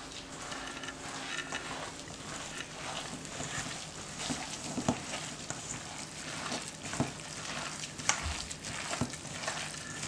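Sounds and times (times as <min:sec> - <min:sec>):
wet filling squelching: 0:00.0 - 0:10.0.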